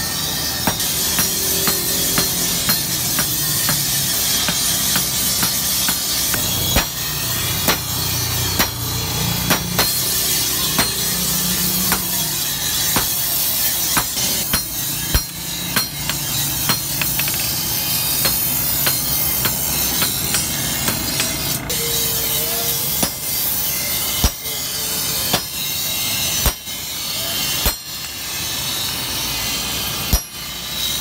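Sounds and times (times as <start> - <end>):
hammer ringing on anvil: 0.0 - 31.0.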